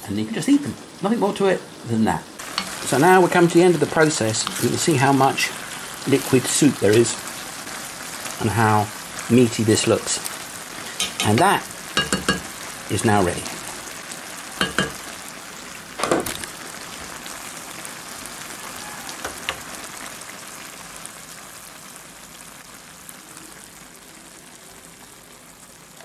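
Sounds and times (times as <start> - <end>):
mushrooms sizzling in frying pan: 0.0 - 26.0.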